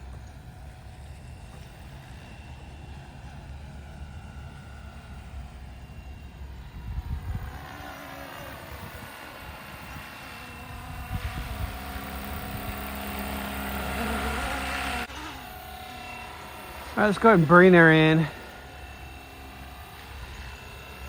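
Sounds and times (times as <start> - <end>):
rc helicopter whirring: 0.0 - 21.0.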